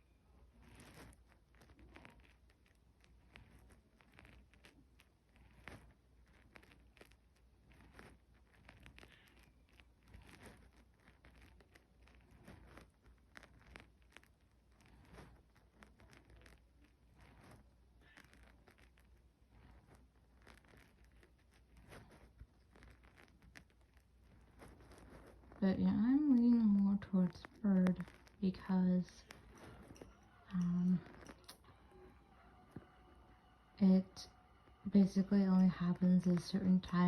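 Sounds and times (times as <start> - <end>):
faint clicks and rustles: 0.0 - 37.0
low steady hum: 0.0 - 37.0.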